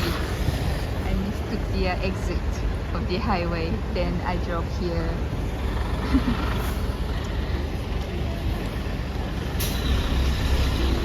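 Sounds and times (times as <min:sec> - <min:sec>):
traffic rumble with tyre hiss: 0:00.0 - 0:11.0.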